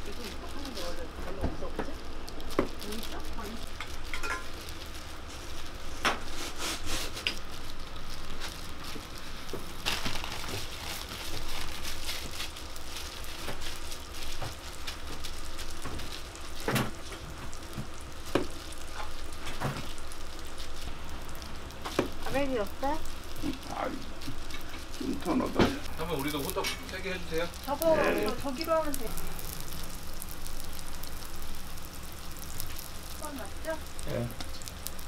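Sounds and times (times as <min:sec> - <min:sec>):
oil sizzling on griddle: 0:00.0 - 0:35.0.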